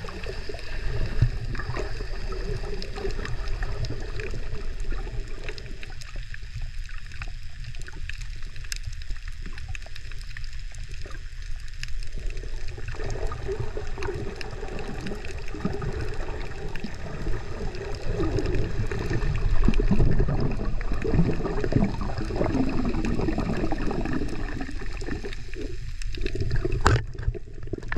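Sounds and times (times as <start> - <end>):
faint underwater clicks: 0.0 - 27.9
underwater rumble: 0.0 - 27.9
water gurgling: 0.0 - 27.9.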